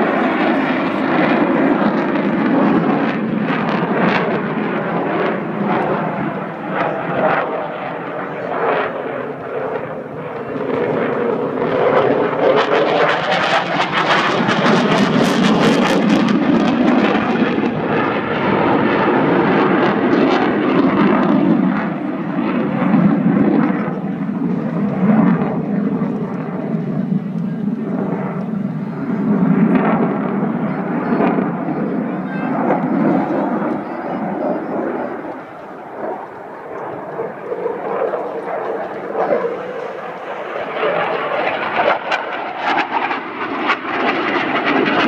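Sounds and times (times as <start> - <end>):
jet fighter flying over: 0.0 - 45.0.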